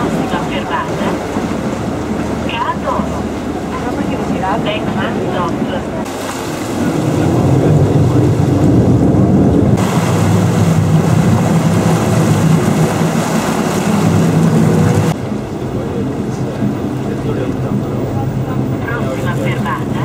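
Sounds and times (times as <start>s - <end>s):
boat engine running: 0.0s - 20.0s
water rushing past hull: 0.0s - 20.0s
wind on microphone: 0.0s - 20.0s.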